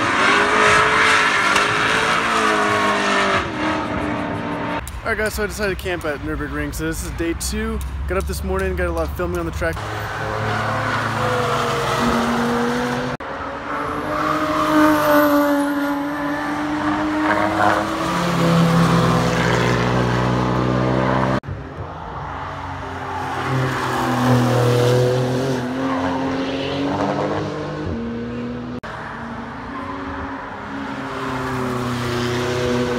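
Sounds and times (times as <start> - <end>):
sports car engines passing: 0.0 - 32.9.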